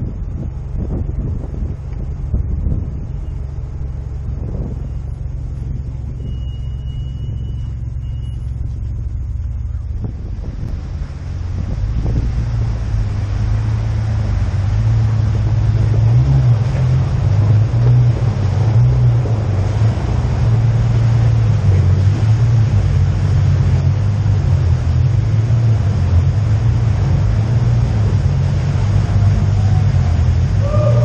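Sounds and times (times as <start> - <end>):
low engine drone at low speed: 0.0 - 31.0.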